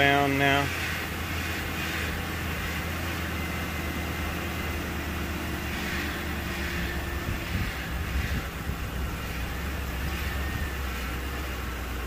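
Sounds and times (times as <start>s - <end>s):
car engine idling: 0.0s - 12.0s
power steering pump whine: 0.0s - 12.0s.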